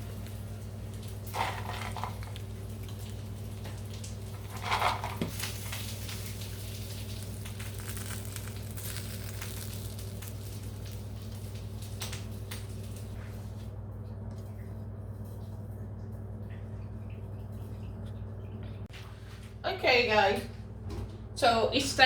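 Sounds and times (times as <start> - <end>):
low kitchen hum: 0.0 - 22.0.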